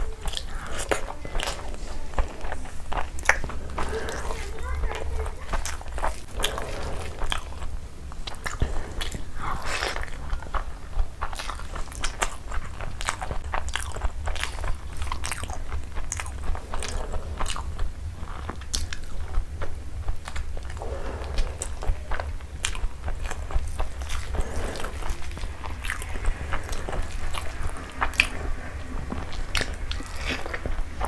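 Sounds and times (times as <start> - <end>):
close chewing mouth sounds: 0.0 - 31.0
low hum: 0.0 - 31.0.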